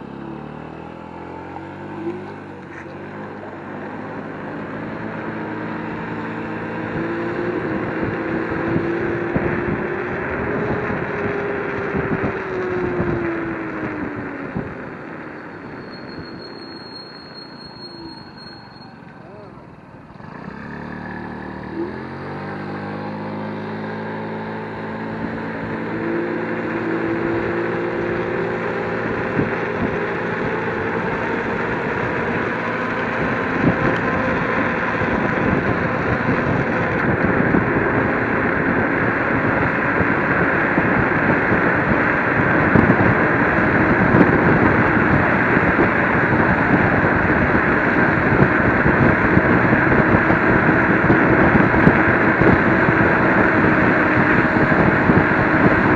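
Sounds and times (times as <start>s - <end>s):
electric scooter motor whine: 0.0s - 55.9s
road noise: 0.0s - 55.9s
wind rush on microphone: 4.4s - 16.6s, 22.4s - 55.9s.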